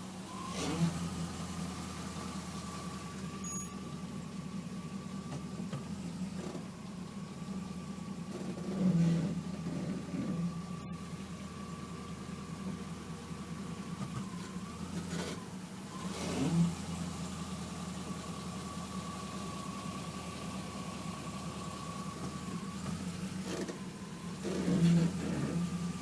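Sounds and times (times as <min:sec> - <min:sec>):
car engine hum: 0:00.0 - 0:26.0.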